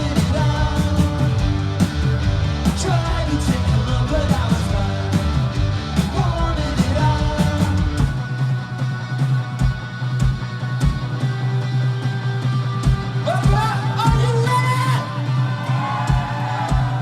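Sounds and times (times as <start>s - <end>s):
punk band playing: 0.0s - 17.0s.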